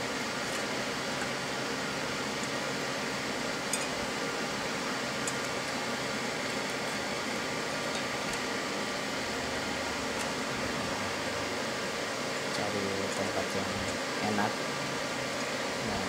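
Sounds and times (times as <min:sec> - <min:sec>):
room noise hiss: 0:00.0 - 0:16.0.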